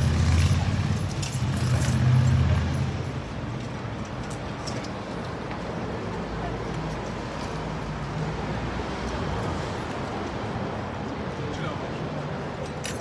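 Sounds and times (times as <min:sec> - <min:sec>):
street hum: 0:00.0 - 0:13.0
vehicle engine rumbling: 0:00.0 - 0:13.0.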